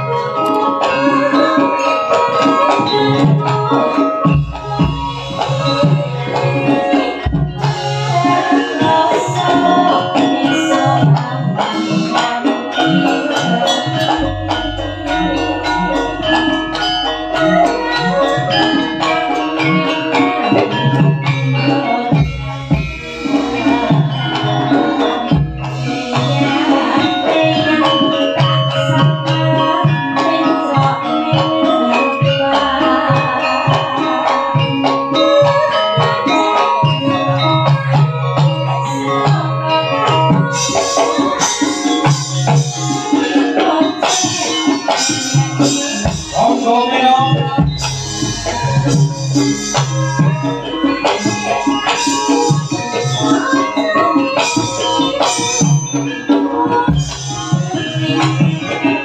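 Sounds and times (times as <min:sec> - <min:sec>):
hand drums: 0:00.0 - 0:59.0
tuned metal percussion: 0:00.0 - 0:59.0
woman singing into microphone: 0:00.0 - 0:59.0.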